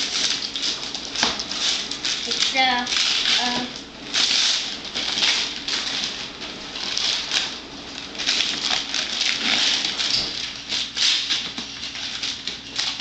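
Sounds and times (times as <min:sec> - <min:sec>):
paper rustling and tearing: 0:00.0 - 0:13.0.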